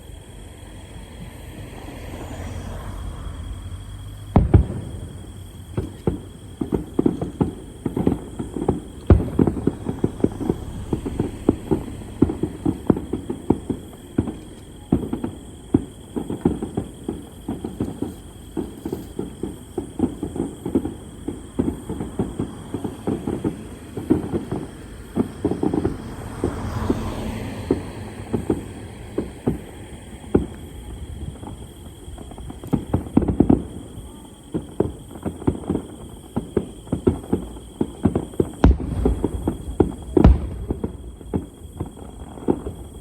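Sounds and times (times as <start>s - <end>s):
firework bangs and pops: 0.0s - 43.0s
firework booms: 0.0s - 43.0s.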